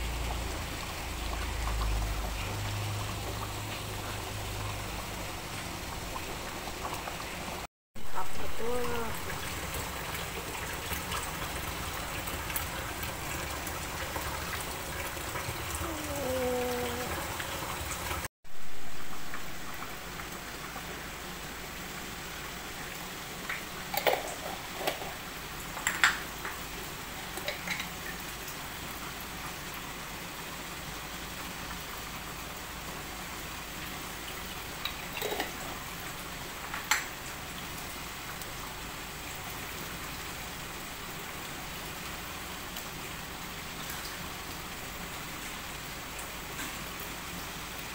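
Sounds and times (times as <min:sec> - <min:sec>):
broth simmering in a wok: 0:00.0 - 0:47.9.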